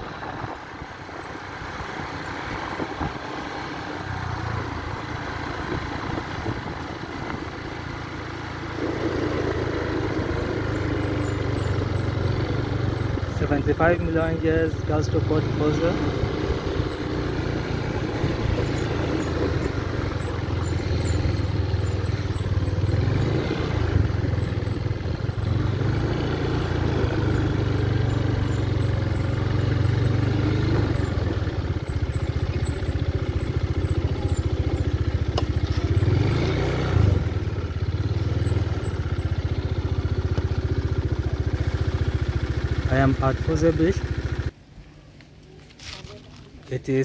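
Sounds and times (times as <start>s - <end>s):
scooter engine running: 0.0s - 44.6s
road and wind noise: 0.0s - 47.0s.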